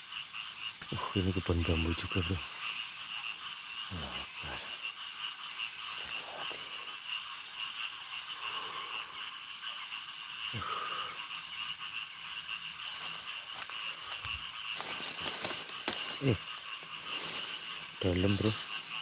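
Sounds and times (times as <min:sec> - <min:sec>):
frogs and insects chorus: 0:00.0 - 0:19.0.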